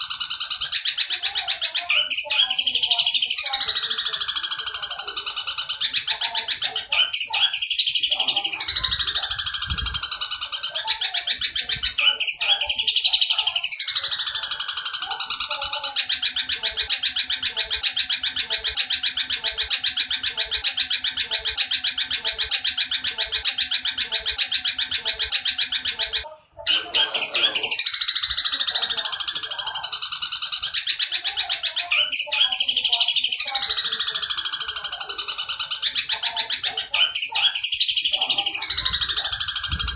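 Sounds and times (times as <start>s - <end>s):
bird chattering harshly: 0.0s - 39.9s.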